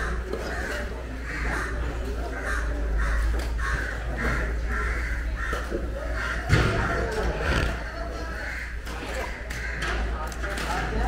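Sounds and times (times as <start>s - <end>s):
crows cawing: 0.0s - 10.2s.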